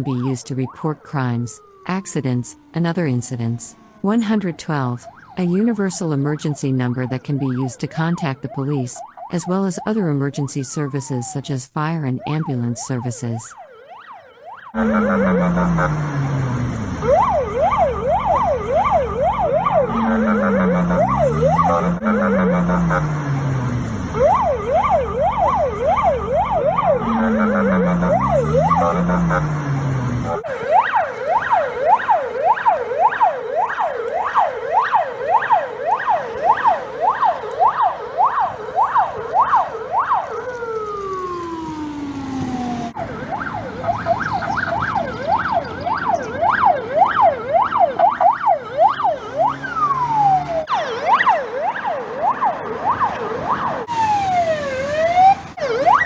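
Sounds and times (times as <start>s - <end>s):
police siren yelping: 0.0s - 11.5s, 12.1s - 56.0s.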